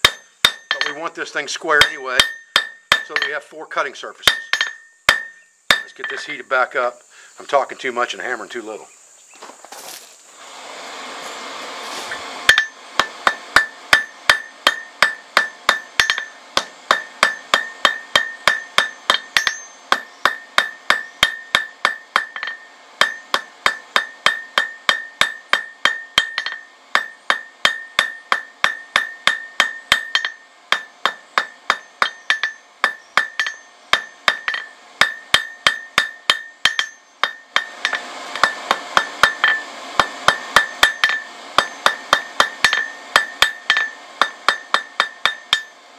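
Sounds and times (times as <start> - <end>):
hammer ringing on anvil: 0.0 - 1.1, 1.8 - 3.5, 4.2 - 6.4, 12.5 - 45.8.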